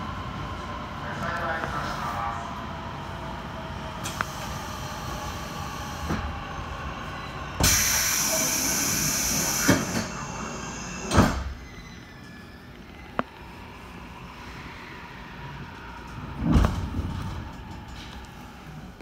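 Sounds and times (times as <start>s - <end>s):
train station ambience: 0.0s - 19.0s.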